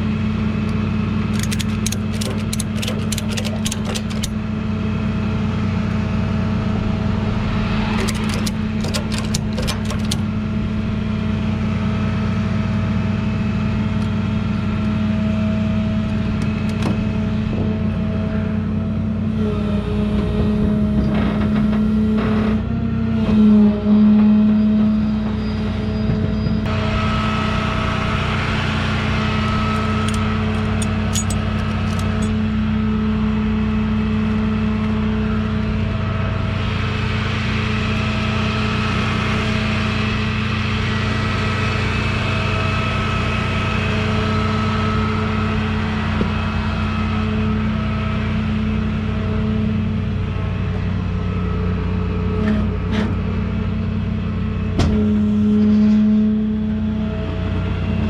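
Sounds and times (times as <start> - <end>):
vehicle engine running: 0.0 - 23.0, 25.9 - 58.0.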